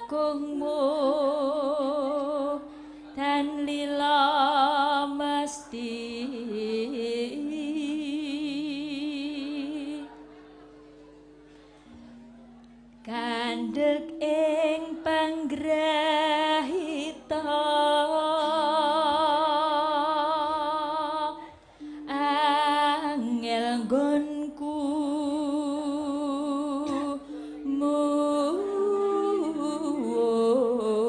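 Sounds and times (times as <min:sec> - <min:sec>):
woman singing with vibrato: 0:00.0 - 0:10.4, 0:13.0 - 0:31.0.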